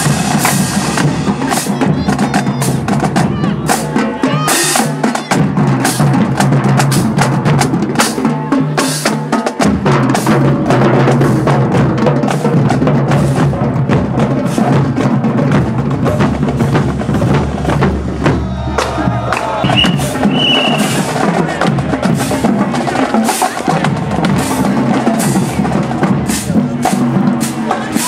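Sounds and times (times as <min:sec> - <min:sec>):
drum line playing: 0:00.0 - 0:28.0.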